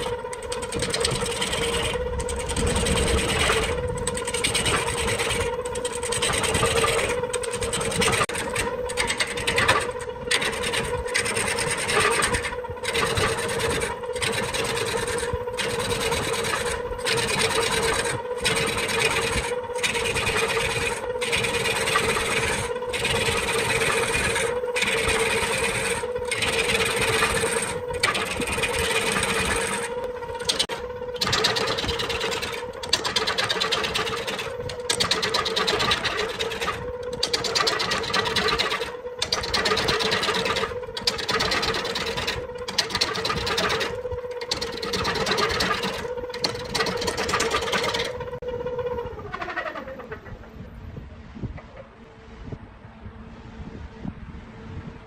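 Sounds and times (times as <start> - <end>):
wood lathe humming: 0.0 - 50.6
tool scraping spinning wood: 0.0 - 52.3.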